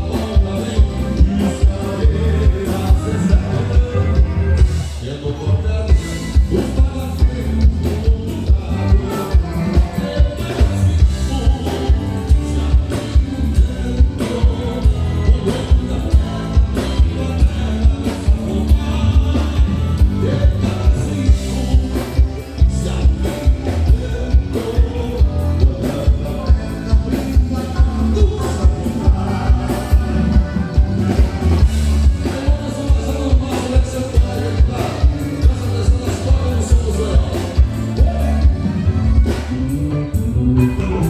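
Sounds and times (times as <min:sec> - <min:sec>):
live band playing regional music: 0:00.0 - 0:41.0.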